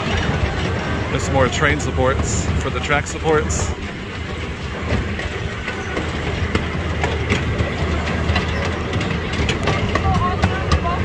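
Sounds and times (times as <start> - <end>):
miniature train rumbling: 0.0 - 11.0
wheels clicking over rail joints: 0.0 - 11.0.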